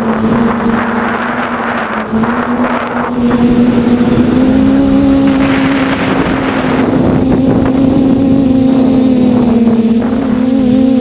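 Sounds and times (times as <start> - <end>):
quadcopter motors humming: 0.0 - 11.0
wind on microphone: 0.0 - 11.0.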